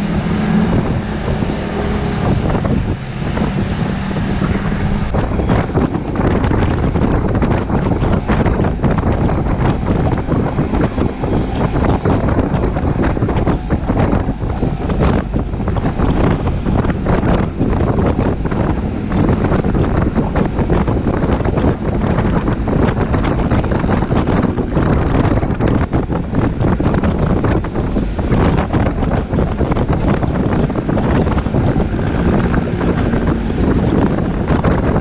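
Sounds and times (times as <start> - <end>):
vehicle noise: 0.0 - 35.0
wind buffeting microphone: 0.0 - 35.0.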